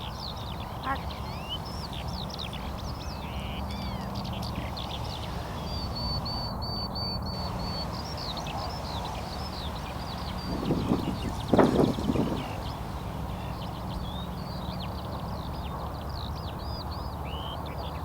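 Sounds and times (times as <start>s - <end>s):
steady low hum: 0.0s - 17.7s
small birds chirping: 0.0s - 18.0s.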